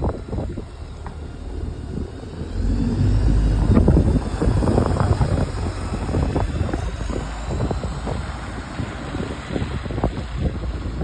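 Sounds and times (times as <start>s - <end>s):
bus diesel engine accelerating: 0.0s - 11.0s
wind buffeting microphone: 0.0s - 11.0s.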